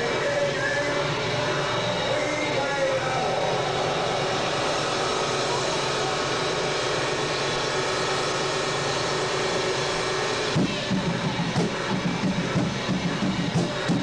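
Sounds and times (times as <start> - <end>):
industrial band noise drone: 0.0 - 14.0.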